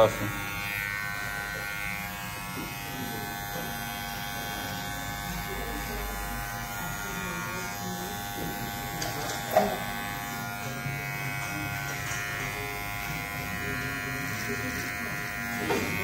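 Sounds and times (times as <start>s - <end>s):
electric hair trimmer buzzing: 0.0s - 16.0s.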